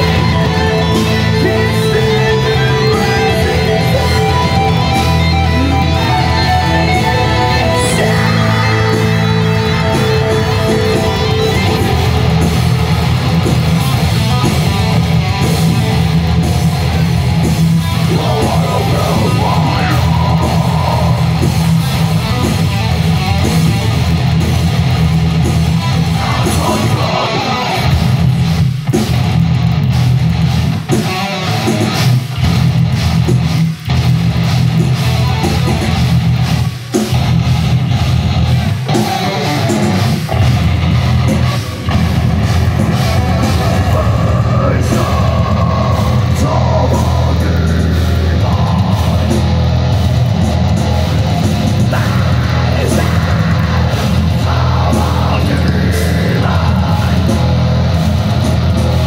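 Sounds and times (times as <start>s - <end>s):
heavy metal band playing live: 0.0s - 59.0s.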